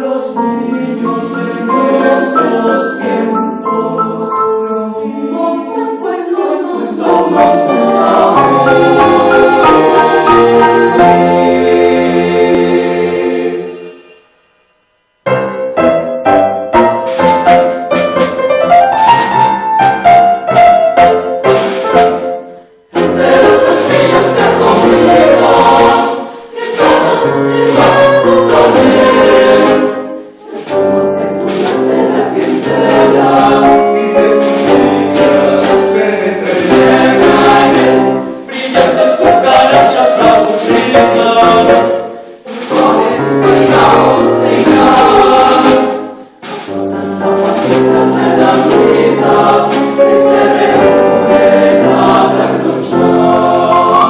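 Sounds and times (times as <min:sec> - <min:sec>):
choir singing with accompaniment: 0:00.0 - 0:54.0.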